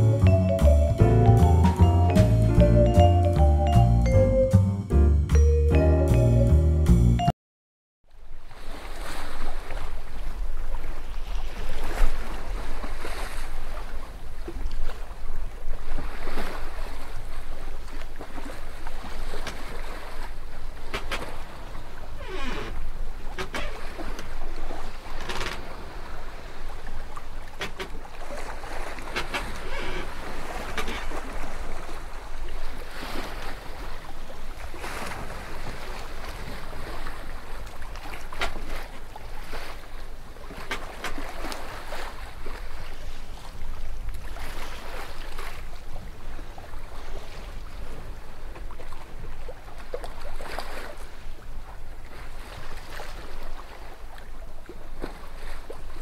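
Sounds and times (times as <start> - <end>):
water splashing along boat hull: 8.3 - 56.0.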